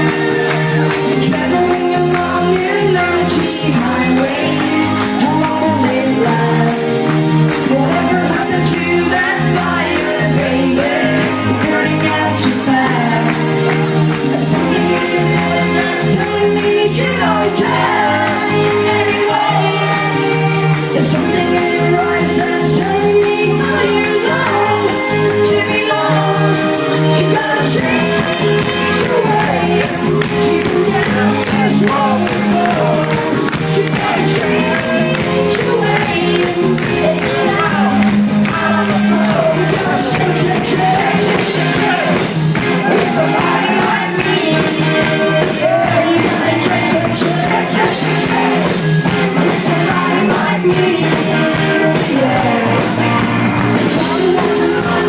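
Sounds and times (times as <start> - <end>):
lead singer: 0.0 - 55.0
live rock band: 0.0 - 55.0
repeated bass line: 0.0 - 55.0.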